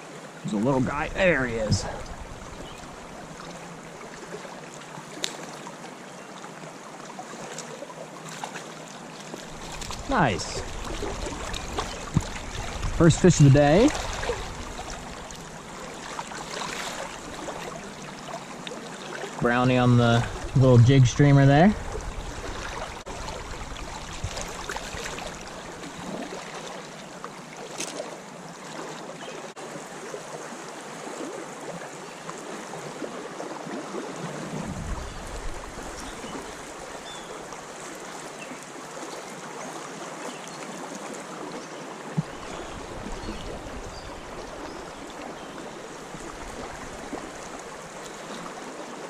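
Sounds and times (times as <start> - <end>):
creek water running: 0.0 - 49.0.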